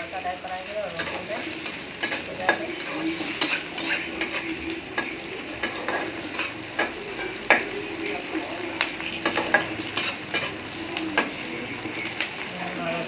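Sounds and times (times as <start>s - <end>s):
onions sizzling in oil: 0.0s - 13.0s
spoon scraping and knocking pan: 1.0s - 8.2s, 8.8s - 12.2s.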